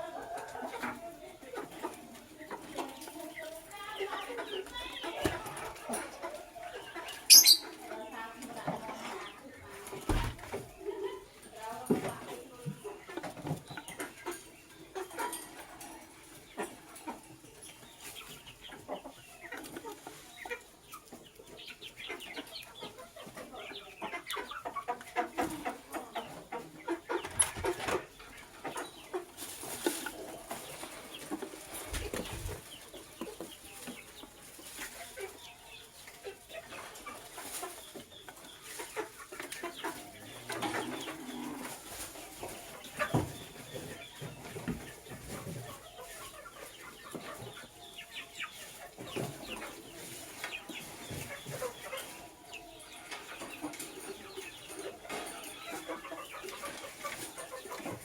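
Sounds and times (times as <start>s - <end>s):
lovebirds chirping and squeaking: 0.5s - 58.0s.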